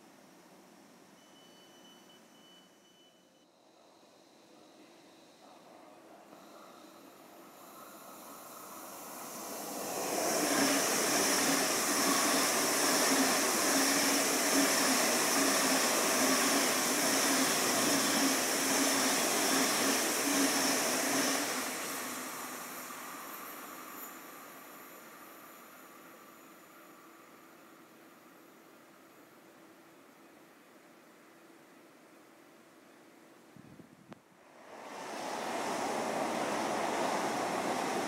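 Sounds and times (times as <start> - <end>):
train passing with hiss: 0.0 - 30.4, 34.4 - 38.0.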